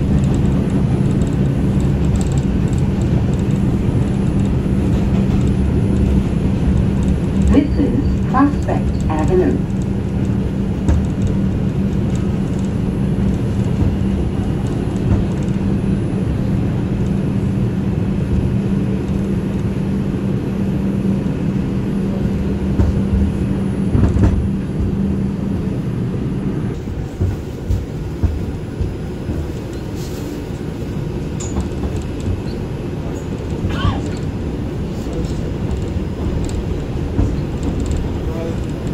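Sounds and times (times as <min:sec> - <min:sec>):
steady hum: 0:00.0 - 0:38.9
subway train rumble: 0:00.0 - 0:38.9.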